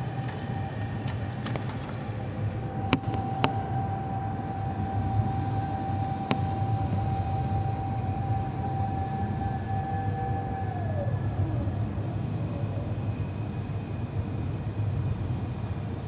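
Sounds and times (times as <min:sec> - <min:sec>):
airplane cabin rumble and whine: 0:00.0 - 0:16.0.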